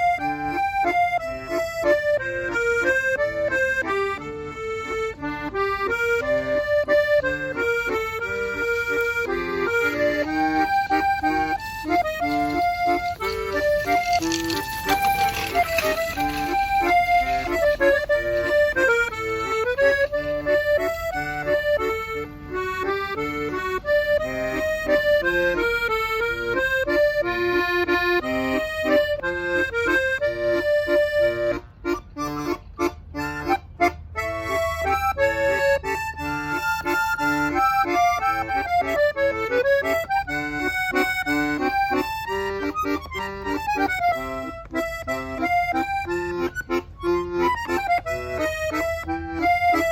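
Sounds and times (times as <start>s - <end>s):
solo accordion melody: 0.0s - 49.9s.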